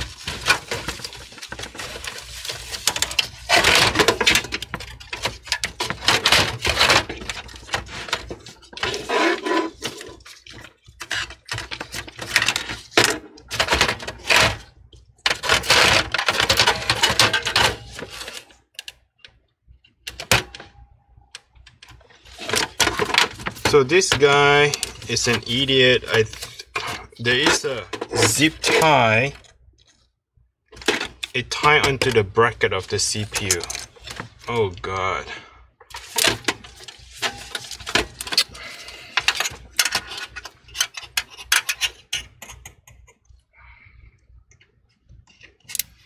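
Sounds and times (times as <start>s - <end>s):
computer parts clicking and rattling: 0.0s - 20.7s, 21.3s - 30.1s, 30.7s - 34.8s, 35.8s - 43.4s.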